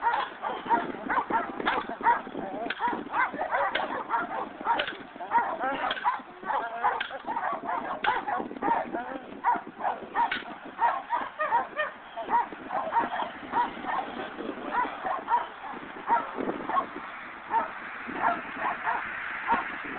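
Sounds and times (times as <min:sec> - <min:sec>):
dog barking: 0:00.0 - 0:16.9, 0:17.5 - 0:19.7.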